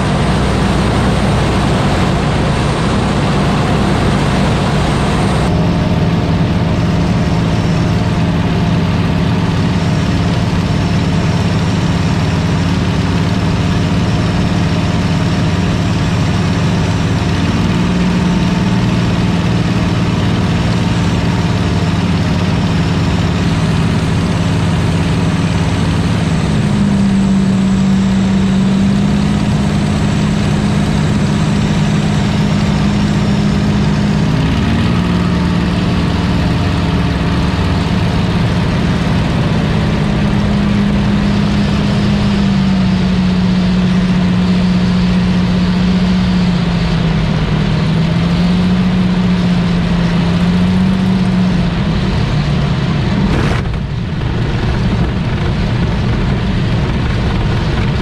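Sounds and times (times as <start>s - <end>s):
aircraft engine running in flight: 0.0s - 58.0s.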